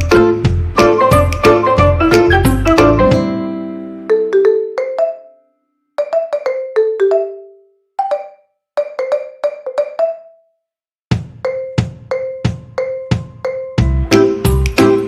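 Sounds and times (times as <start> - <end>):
marimba-like background music: 0.0 - 5.4, 6.0 - 10.3, 11.4 - 15.0.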